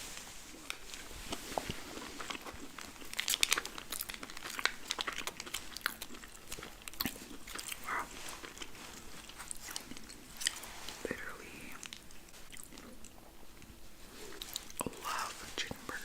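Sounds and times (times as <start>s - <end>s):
crunchy bites and wet chewing: 0.6s - 15.8s.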